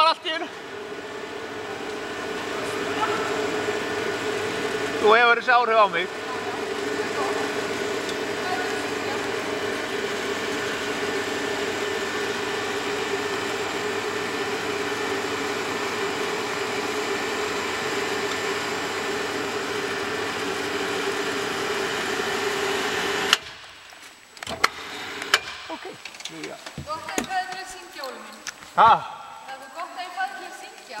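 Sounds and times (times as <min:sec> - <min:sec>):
cable lift mechanical hum: 0:00.0 - 0:28.2.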